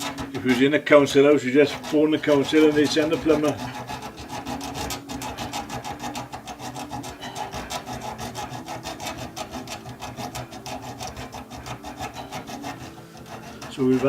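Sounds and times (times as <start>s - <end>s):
hacksaw sawing through pipe: 0.0s - 14.0s.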